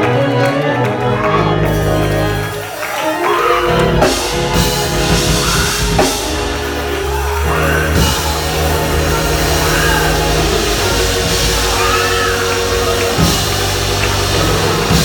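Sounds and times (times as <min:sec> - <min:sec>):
live band playing: 0:00.0 - 0:15.0
drums: 0:01.2 - 0:15.0.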